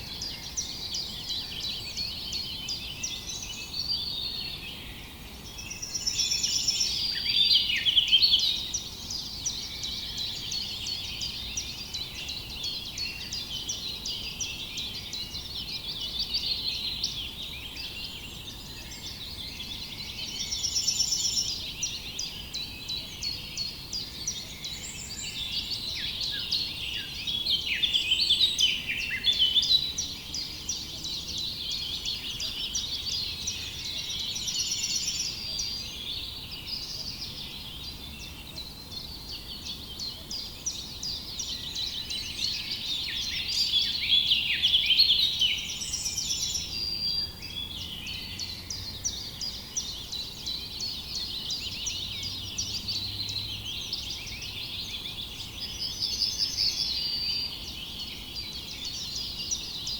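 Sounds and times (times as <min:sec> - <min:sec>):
birds chirping and twittering: 0:00.0 - 0:59.9.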